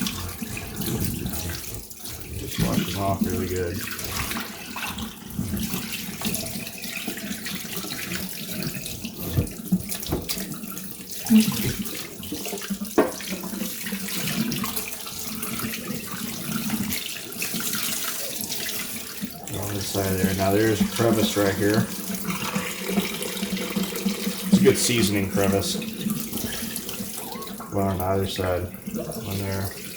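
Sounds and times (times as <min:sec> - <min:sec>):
tap water splashing: 0:00.0 - 0:29.9.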